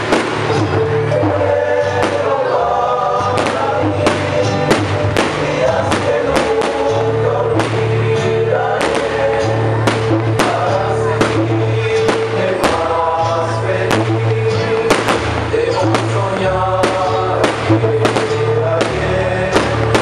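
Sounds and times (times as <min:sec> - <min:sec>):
fireworks exploding: 0:00.0 - 0:20.0
loud music with bass: 0:00.0 - 0:20.0.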